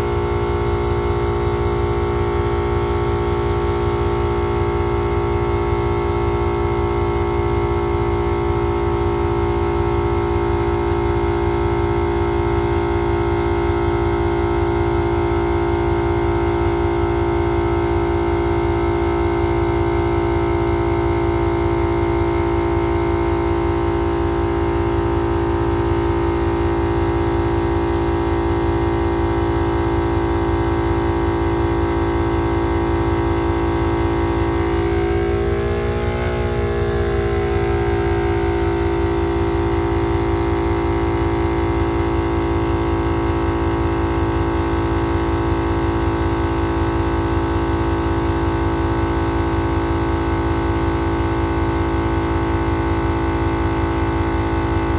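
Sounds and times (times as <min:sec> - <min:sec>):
portable air compressor running: 0:00.0 - 0:50.3.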